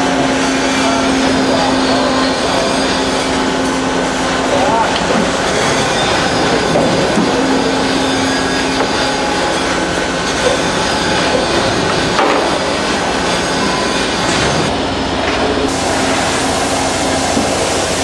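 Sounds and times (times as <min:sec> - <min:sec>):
machine running loudly: 0:00.0 - 0:18.0.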